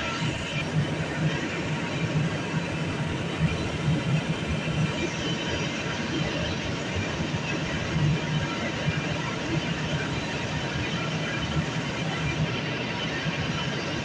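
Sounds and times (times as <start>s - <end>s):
machinery hum and rush: 0.0s - 14.0s.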